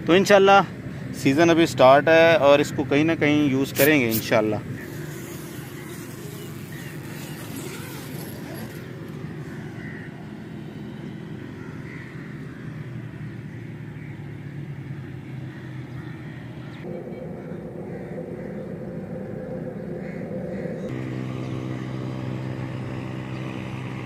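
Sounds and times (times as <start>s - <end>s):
distant road traffic rumble: 0.0s - 24.0s.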